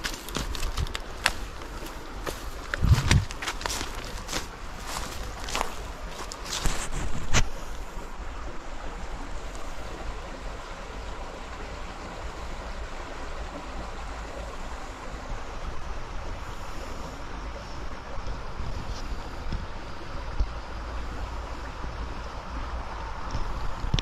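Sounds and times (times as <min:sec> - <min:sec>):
wind rumbling on microphone: 0:00.0 - 0:11.0, 0:15.4 - 0:24.0
river water flowing: 0:00.0 - 0:24.0.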